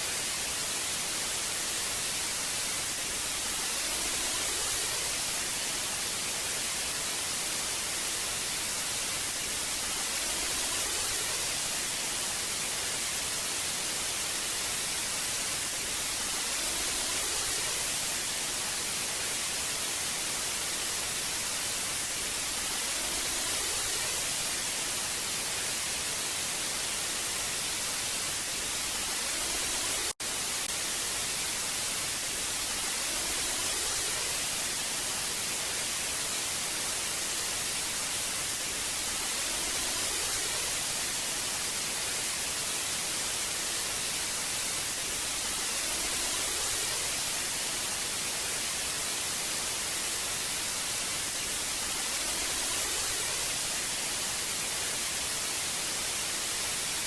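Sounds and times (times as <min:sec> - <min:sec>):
television static hiss: 0:00.0 - 0:57.0.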